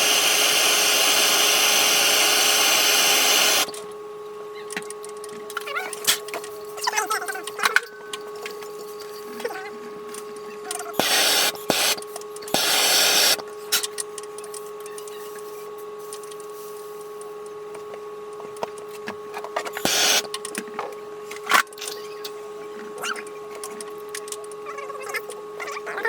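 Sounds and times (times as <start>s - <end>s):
steady electrical hum: 0.0s - 22.8s.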